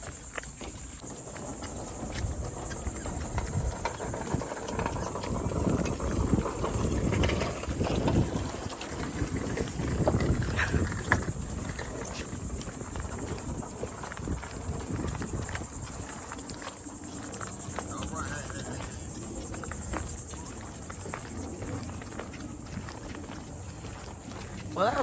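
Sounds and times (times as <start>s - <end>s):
footsteps of people walking: 0.0s - 25.0s
high insect drone: 0.0s - 25.0s.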